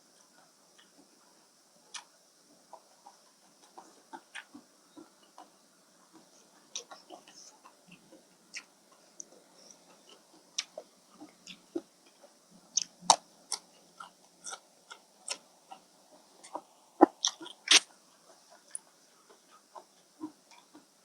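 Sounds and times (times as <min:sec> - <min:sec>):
person chewing food: 0:02.8 - 0:20.9.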